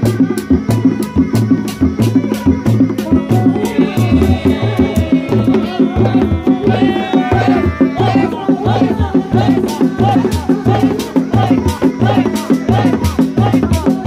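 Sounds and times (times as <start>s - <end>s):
hand drums thumping: 0.0s - 14.0s.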